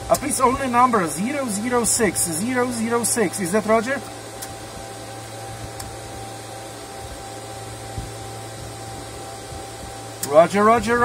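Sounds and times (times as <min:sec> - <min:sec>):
cooling fans whirring: 0:00.0 - 0:11.0
faint high whine: 0:00.0 - 0:11.0
low hum: 0:00.0 - 0:11.0.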